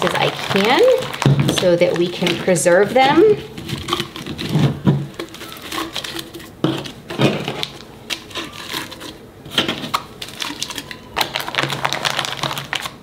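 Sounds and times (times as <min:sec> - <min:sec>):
packets rustling and crinkling: 0:00.0 - 0:13.0.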